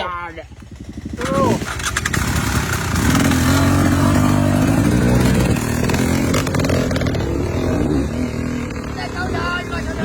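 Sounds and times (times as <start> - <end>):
motorcycle engine revving unevenly: 0.0 - 10.0.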